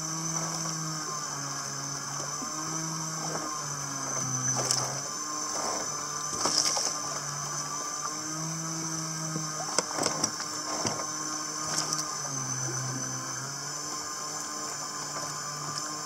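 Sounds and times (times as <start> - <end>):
low hum shifting in pitch: 0.0 - 16.0
water splashing against boat hull: 0.2 - 13.8.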